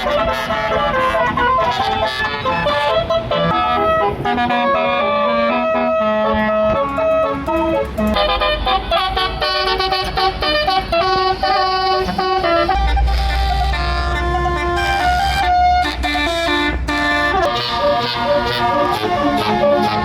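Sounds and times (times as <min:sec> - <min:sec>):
bus musical horn tune: 0:00.0 - 0:20.0
low engine rumble: 0:00.0 - 0:20.0.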